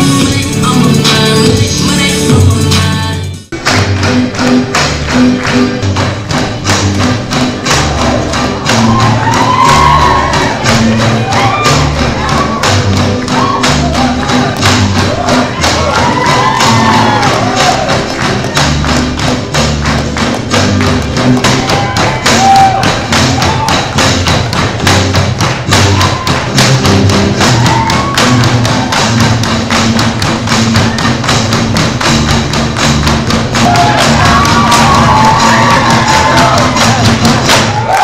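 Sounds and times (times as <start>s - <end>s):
loud music: 0.0s - 38.0s.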